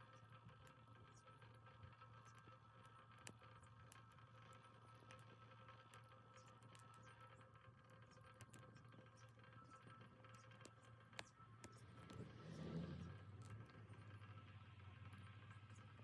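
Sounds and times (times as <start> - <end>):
blower fan humming: 0.0 - 16.0
small wood fire crackling: 0.0 - 16.0.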